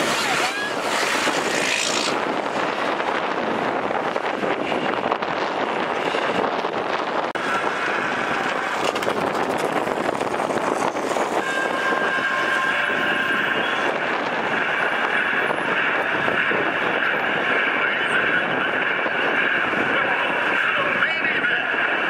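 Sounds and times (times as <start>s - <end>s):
steady high whine: 0.0s - 22.0s.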